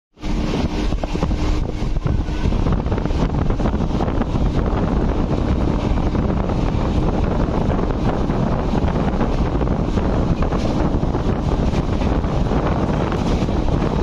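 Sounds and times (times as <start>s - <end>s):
train wheels rumbling on track: 0.2s - 14.0s
wind buffeting microphone: 0.2s - 14.0s.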